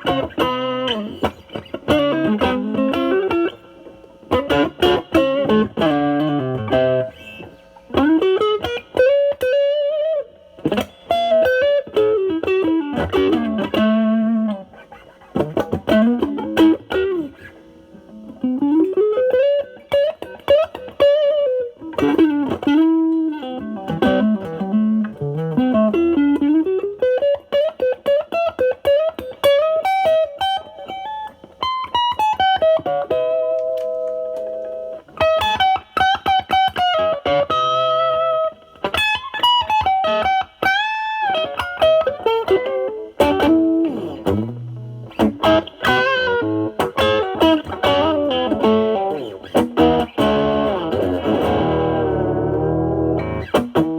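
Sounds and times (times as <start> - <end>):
overdriven electric guitar lead: 0.0 - 53.9.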